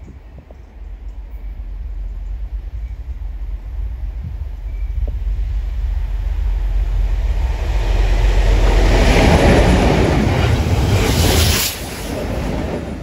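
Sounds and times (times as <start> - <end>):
train passing with rushing rumble: 0.0 - 13.0
wind buffeting microphone: 0.0 - 13.0.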